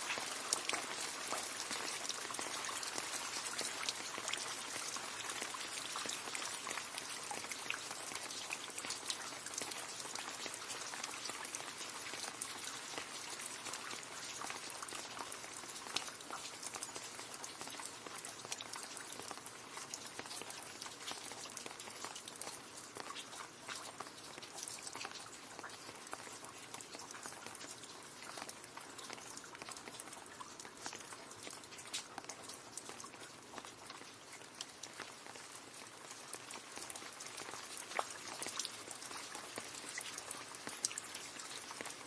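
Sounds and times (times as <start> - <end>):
rain falling into a puddle: 0.0 - 42.0.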